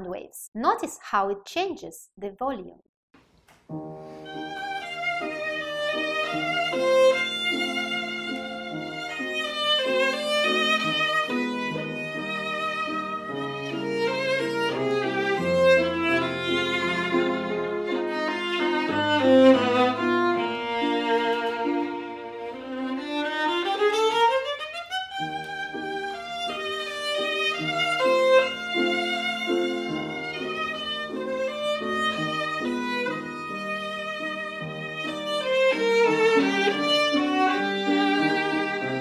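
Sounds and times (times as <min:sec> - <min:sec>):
piano: 0:03.5 - 0:39.0
violin melody with vibrato: 0:04.0 - 0:39.0.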